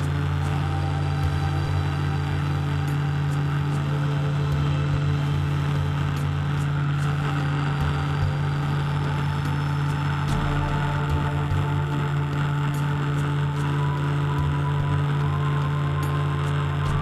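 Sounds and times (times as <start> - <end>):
motor hum: 0.0 - 17.0.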